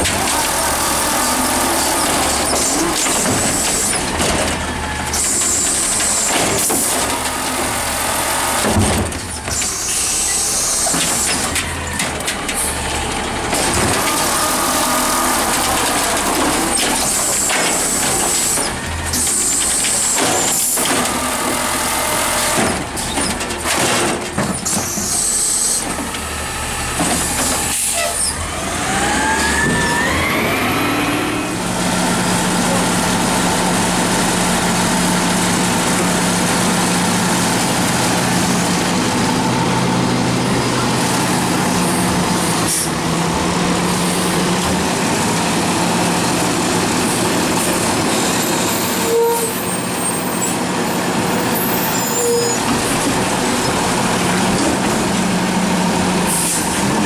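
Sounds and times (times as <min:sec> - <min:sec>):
garbage truck engine running: 0:00.0 - 0:57.0
hydraulic arm lifting carts: 0:00.0 - 0:57.0.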